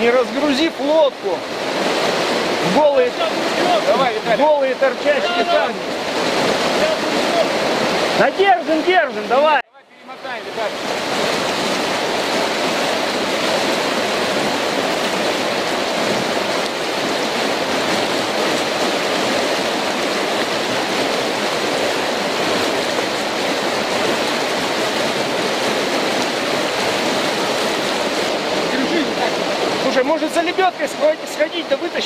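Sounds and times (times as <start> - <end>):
river rapid rushing over rocks: 0.0 - 32.0.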